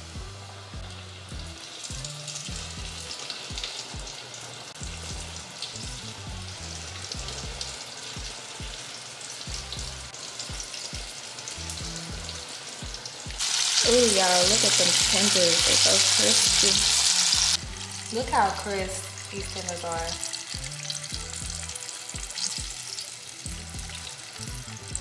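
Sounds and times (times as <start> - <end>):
background music: 0.0 - 25.0
food deep-frying in oil: 0.0 - 25.0.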